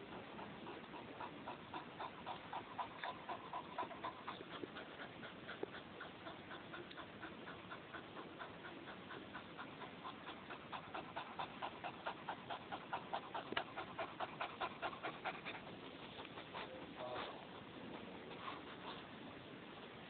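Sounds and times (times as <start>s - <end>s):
dog panting: 0.0s - 19.4s.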